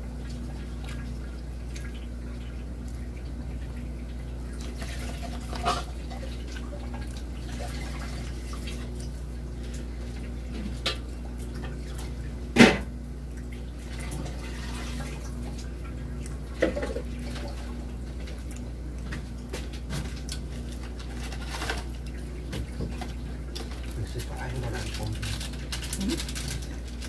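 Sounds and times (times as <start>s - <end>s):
faint water in sink: 0.0s - 27.0s
steady low hum: 0.0s - 27.0s.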